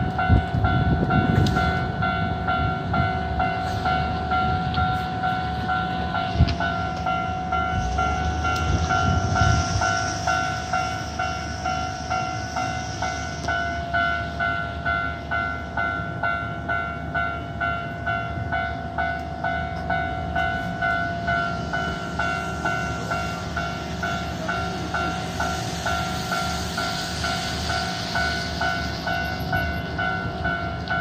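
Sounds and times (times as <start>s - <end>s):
level-crossing alarm clanging: 0.0s - 31.0s.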